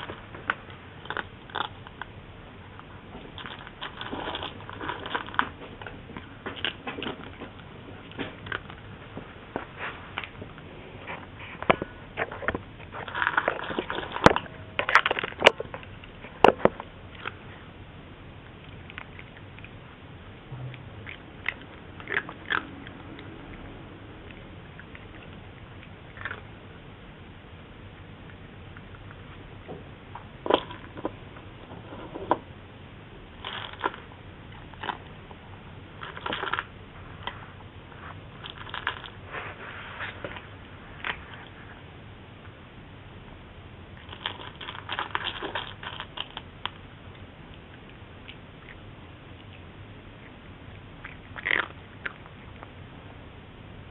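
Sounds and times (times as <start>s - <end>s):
cat crunching dry kibble: 0.0s - 17.8s, 18.4s - 26.9s, 27.8s - 32.5s, 33.3s - 41.8s, 43.9s - 52.8s.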